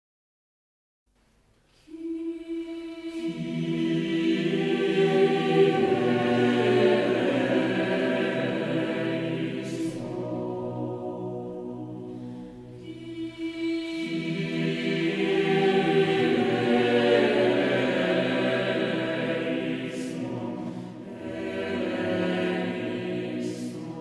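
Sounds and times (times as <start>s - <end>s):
choir singing sustained chords: 1.8s - 24.0s.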